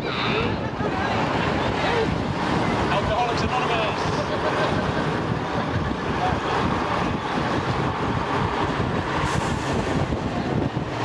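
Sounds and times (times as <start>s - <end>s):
bus engine rumbling: 0.0s - 11.0s
wind buffeting microphone: 0.0s - 11.0s.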